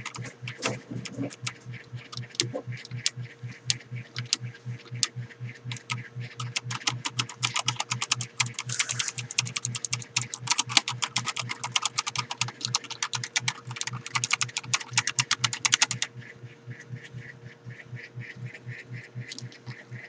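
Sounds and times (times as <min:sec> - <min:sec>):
rapid keyboard typing: 0:00.0 - 0:16.2.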